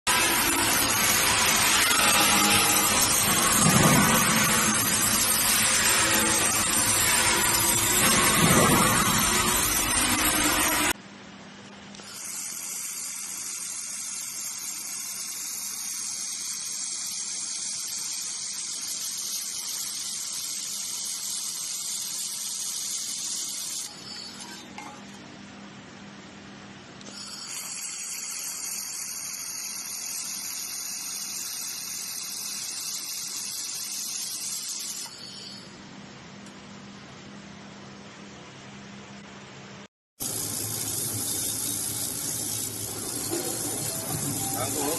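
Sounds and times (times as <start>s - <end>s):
laser welder hissing sizzle: 0.1s - 11.0s, 12.0s - 25.0s, 27.0s - 35.7s, 40.2s - 44.9s.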